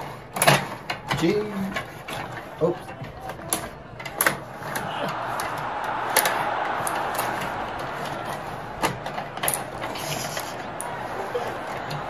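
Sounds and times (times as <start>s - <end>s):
sharp plastic clicks: 0.0s - 12.0s.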